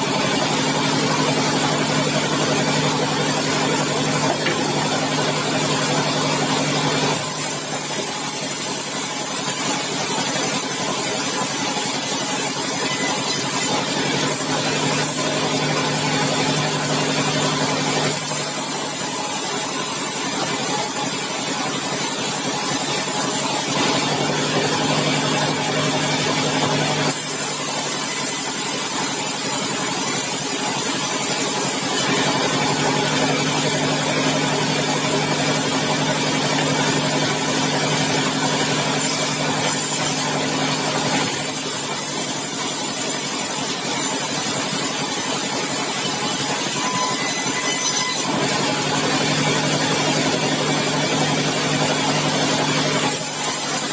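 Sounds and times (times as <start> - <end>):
sawmill machinery sawing log: 0.0 - 53.9.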